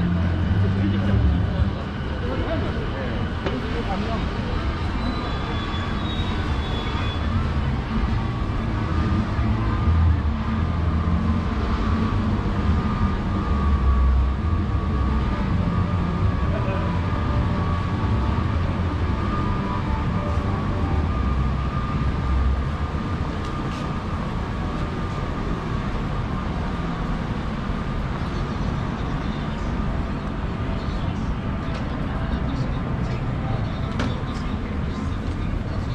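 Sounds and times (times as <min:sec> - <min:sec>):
train rumbling overhead: 0:00.0 - 0:35.9.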